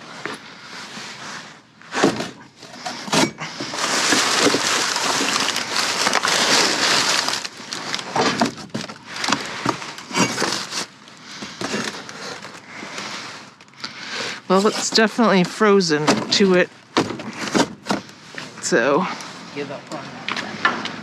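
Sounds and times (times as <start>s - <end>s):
scraping and crunching: 0.0s - 21.0s.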